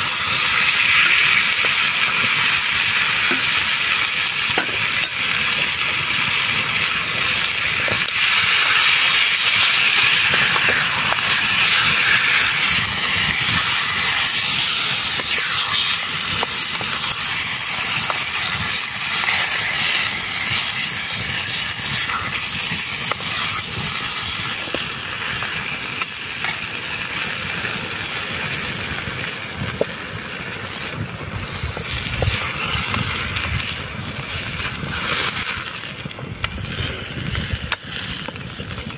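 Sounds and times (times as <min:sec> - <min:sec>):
chicken sizzling in a pan: 0:00.0 - 0:38.9
wood fire crackling: 0:00.0 - 0:38.9.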